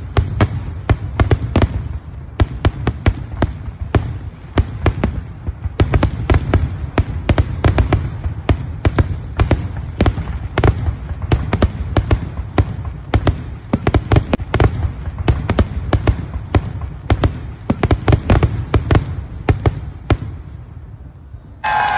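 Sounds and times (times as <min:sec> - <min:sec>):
fireworks bangs: 0:00.0 - 0:21.9.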